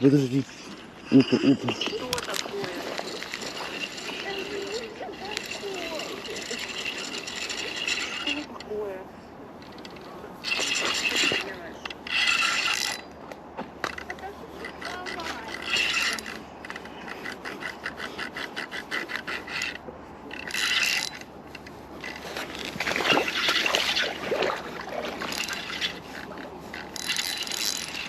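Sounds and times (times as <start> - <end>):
rapid rhythmic scraping: 0.0 - 9.0, 9.7 - 13.1, 14.0 - 28.0
rustling scrapes: 0.0 - 9.0, 9.6 - 13.1, 13.8 - 28.0.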